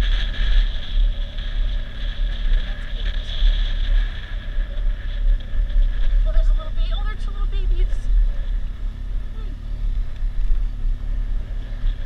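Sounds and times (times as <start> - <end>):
vehicle engine under load: 0.0 - 12.0.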